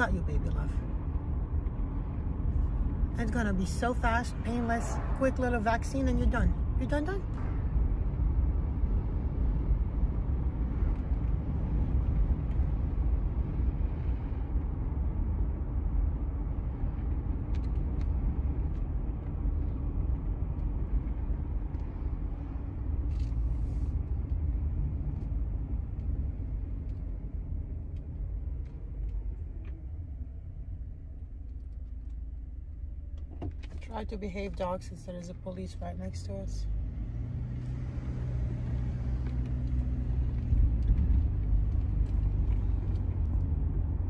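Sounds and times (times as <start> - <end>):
road and engine rumble: 0.0 - 44.0.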